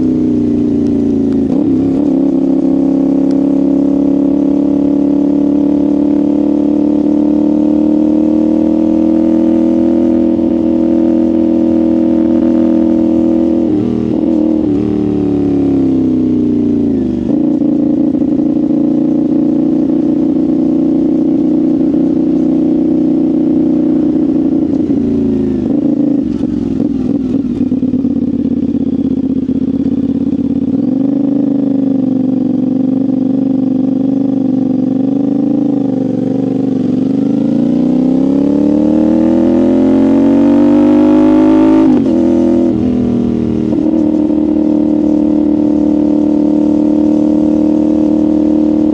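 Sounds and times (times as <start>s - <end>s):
motorcycle engine and exhaust: 0.0s - 48.9s.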